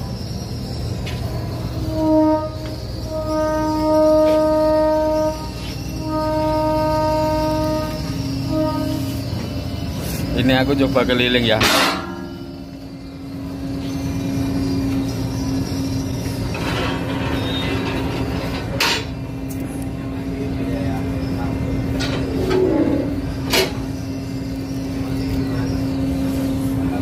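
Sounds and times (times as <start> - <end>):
ship engines droning: 0.0 - 27.0.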